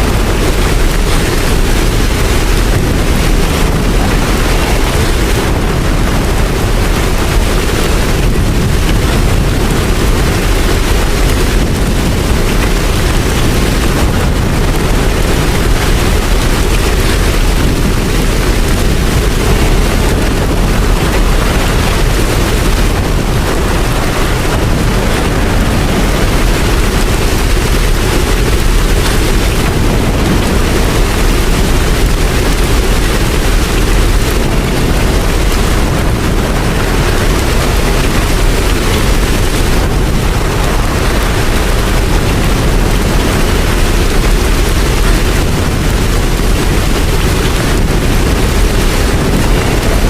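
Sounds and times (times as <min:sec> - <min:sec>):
heavy rain: 0:00.0 - 0:50.0.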